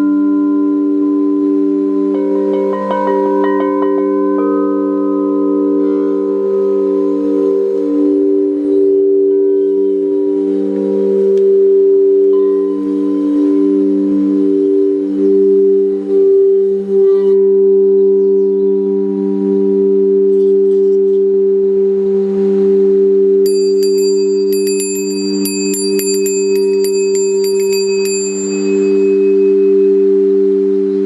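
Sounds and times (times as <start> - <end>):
crystal singing bowls ringing: 0.0 - 22.2, 23.0 - 31.0
higher singing bowl tone: 0.0 - 31.0.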